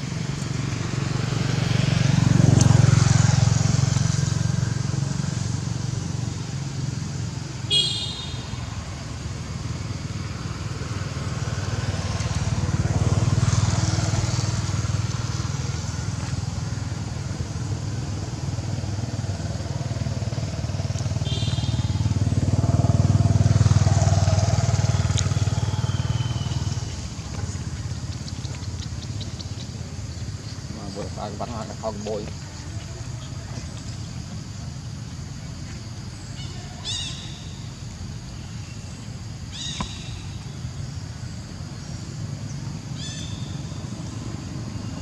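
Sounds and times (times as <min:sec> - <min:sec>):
motorbikes passing: 0:00.0 - 0:45.0.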